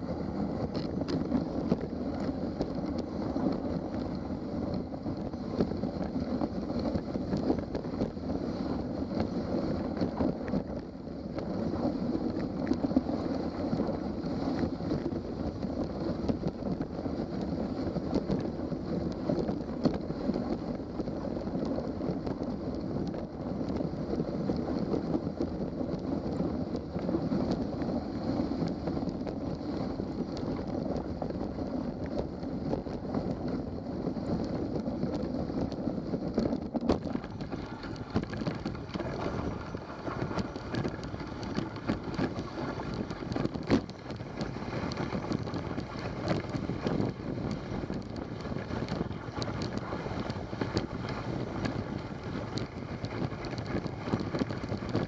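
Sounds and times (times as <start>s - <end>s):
sled runners sliding over snow: 0.0s - 55.0s
wind on the microphone: 0.0s - 55.0s.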